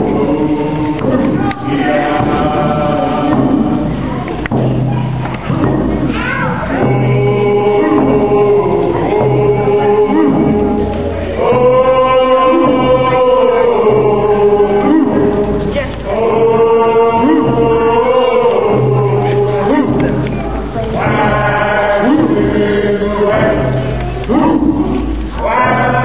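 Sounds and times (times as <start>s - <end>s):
group of voices chanting: 0.0s - 26.0s
hand drums beating: 0.0s - 26.0s.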